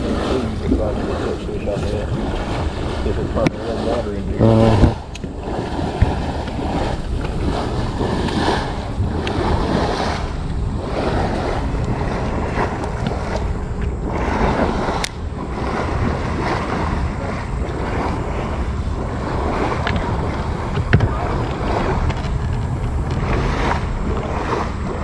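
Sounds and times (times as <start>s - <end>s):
rushing river current: 0.0s - 25.0s
wind buffeting microphone: 0.0s - 25.0s.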